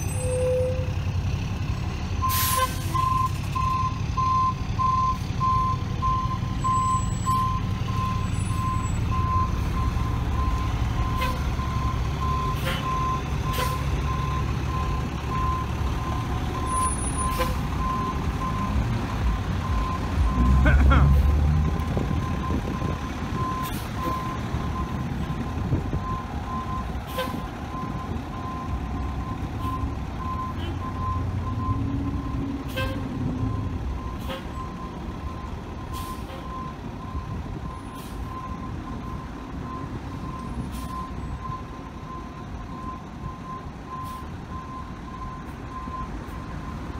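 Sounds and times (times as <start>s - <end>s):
diesel engine rumble: 0.0s - 46.9s.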